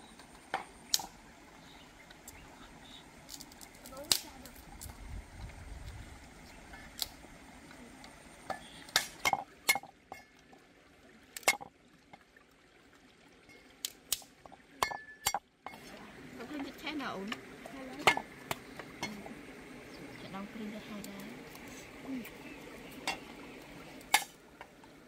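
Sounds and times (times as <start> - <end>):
running stream water: 0.0 - 25.0.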